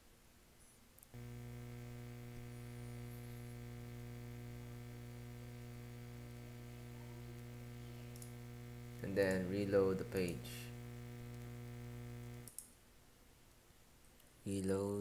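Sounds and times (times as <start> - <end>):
electrical mains hum: 0.0 - 12.9
faint electrical buzz: 0.0 - 15.0.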